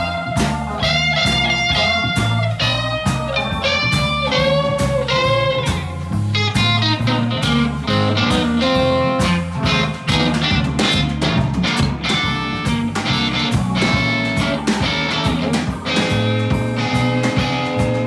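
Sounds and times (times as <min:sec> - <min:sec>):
drum kit: 0:00.0 - 0:18.0
electric guitar lead lines: 0:00.0 - 0:18.0
low bass line: 0:00.0 - 0:18.0.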